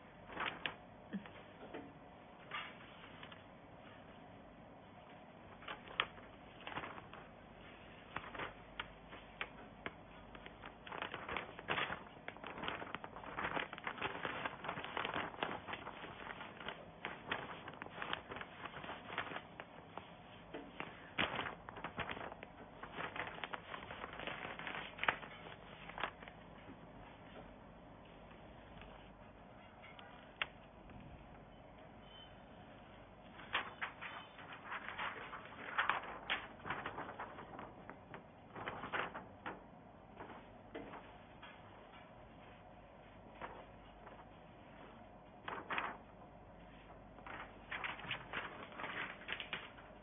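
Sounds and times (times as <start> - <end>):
plastic film crinkling: 0.0 - 1.7, 5.1 - 27.5, 33.2 - 50.0.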